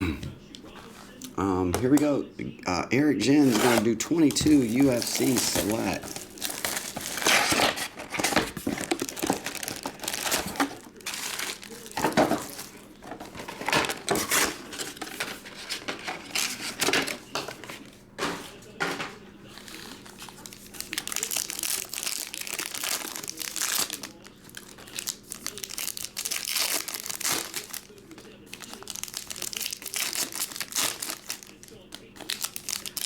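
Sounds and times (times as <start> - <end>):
plastic wrapping tearing and crinkling: 3.4 - 17.7, 19.6 - 33.0.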